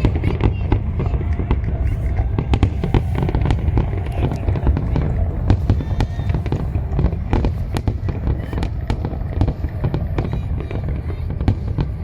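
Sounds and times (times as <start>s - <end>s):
fireworks bangs and crackles: 0.0s - 12.0s
low rumble of distant bursts: 0.0s - 12.0s.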